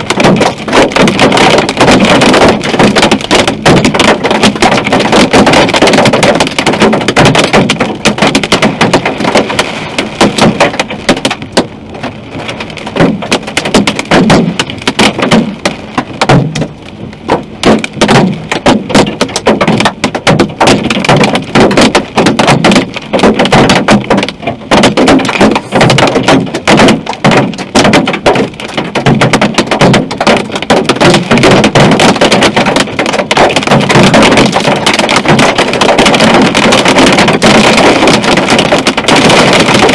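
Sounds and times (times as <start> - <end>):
hail drumming on a car: 0.0 - 39.9.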